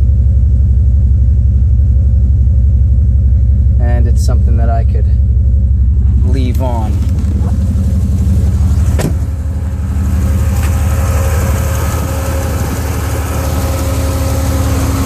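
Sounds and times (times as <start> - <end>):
car engine idling: 0.0 - 15.0
radiator fan running: 0.0 - 15.0.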